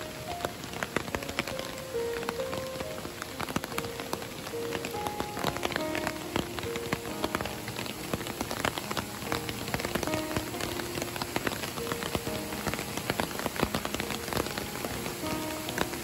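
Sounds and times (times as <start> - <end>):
heavy rain on trees: 0.0 - 16.0
soft background music: 0.0 - 16.0.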